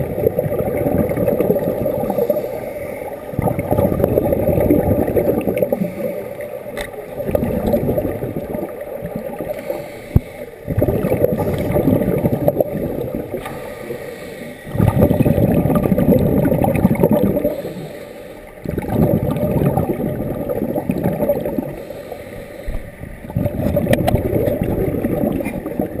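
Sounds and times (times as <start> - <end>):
underwater regulator bubbles: 0.0 - 26.0.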